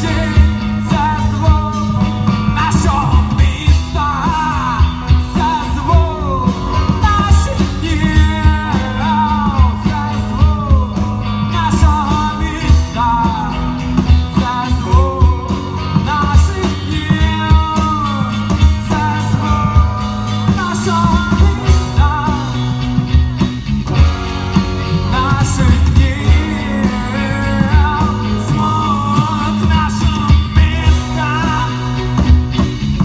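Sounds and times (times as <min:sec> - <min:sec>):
person singing: 0:00.0 - 0:23.0, 0:24.9 - 0:32.4
drum kit: 0:00.0 - 0:33.0
electric guitars: 0:00.0 - 0:33.0.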